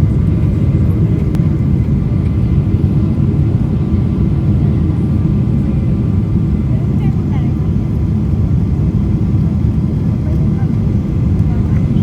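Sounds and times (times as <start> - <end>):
airliner engine and airflow rumble: 0.0 - 12.0.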